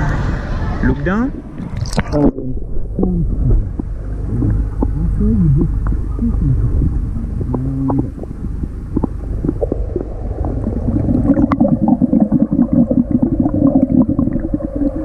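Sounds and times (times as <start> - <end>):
fast underwater bubbling: 1.3 - 15.0
underwater clicks: 1.6 - 2.4, 3.0 - 14.5.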